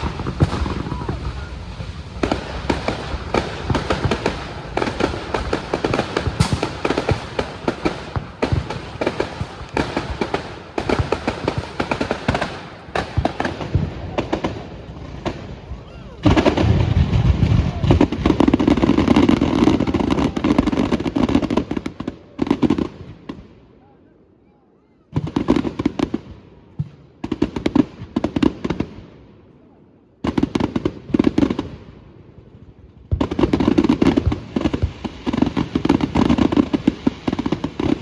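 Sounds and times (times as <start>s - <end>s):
fireworks crackles and bangs: 0.0s - 23.6s, 25.1s - 29.2s, 30.2s - 38.0s.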